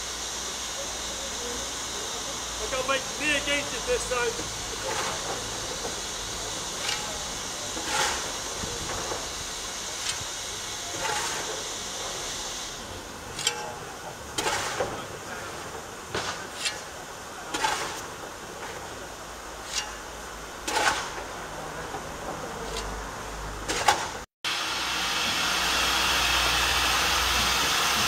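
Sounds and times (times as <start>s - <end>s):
steady steam hiss: 0.0s - 28.0s.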